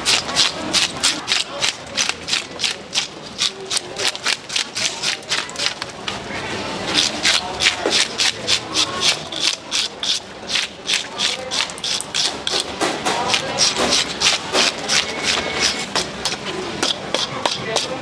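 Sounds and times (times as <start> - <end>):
rhythmic scraping on hard surface: 0.0 - 18.0.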